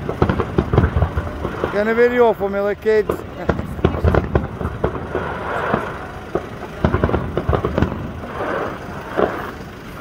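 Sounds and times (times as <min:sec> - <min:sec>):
background rumble: 0:00.0 - 0:10.0
distant fireworks bangs and pops: 0:00.0 - 0:10.0.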